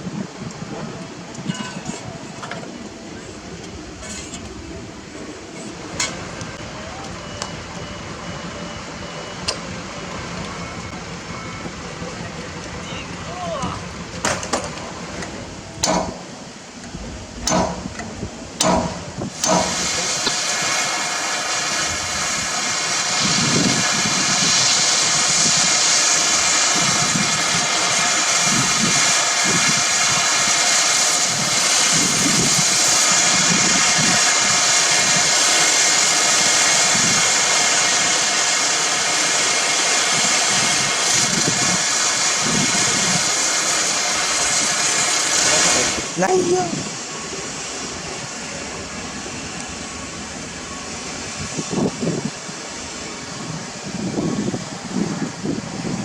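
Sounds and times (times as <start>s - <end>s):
strong hiss: 0.0s - 56.0s
heavy diesel engine running: 2.0s - 56.0s.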